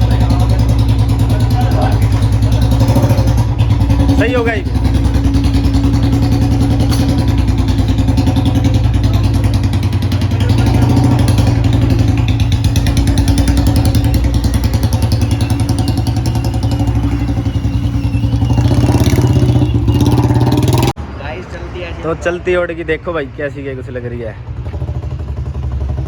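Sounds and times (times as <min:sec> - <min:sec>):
motorcycle engine running: 0:00.0 - 0:21.0, 0:24.4 - 0:26.0.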